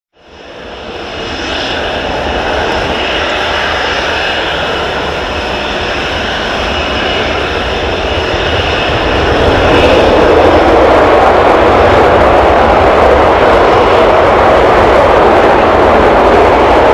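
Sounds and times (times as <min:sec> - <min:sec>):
high jet whine: 0:00.2 - 0:16.9
jet engines roaring: 0:00.2 - 0:16.9.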